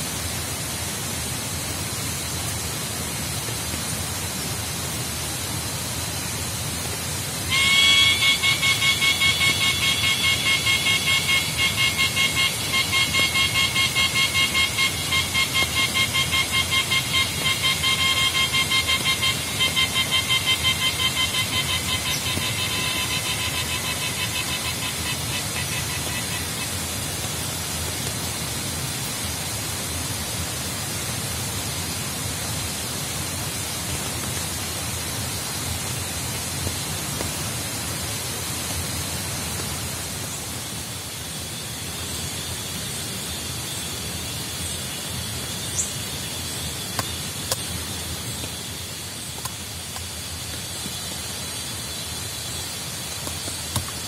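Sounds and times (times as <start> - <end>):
steady rain on foliage: 0.0 - 54.0.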